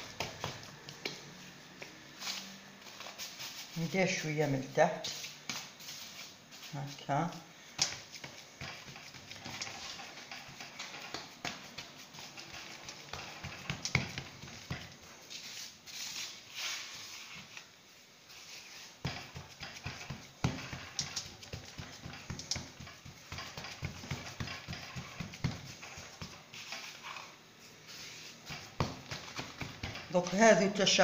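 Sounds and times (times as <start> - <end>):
hands patting dough on tray: 0.0 - 4.3, 5.0 - 17.6, 18.3 - 27.2, 27.9 - 30.9.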